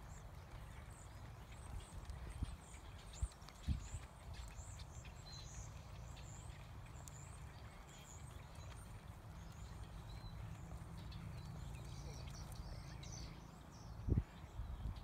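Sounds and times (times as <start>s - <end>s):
horse hooves thudding on dirt: 0.0s - 14.4s.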